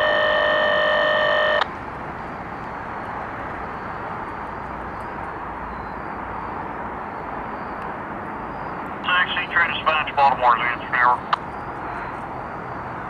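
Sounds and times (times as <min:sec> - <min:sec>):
steady rushing background noise: 0:00.3 - 0:13.0.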